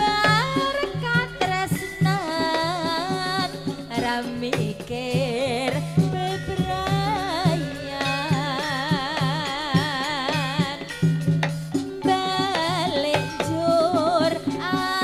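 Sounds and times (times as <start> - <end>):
woman singing with vibrato: 0.0 - 11.1, 11.8 - 15.0
band accompaniment: 0.0 - 15.0
steady drum beat: 0.0 - 15.0.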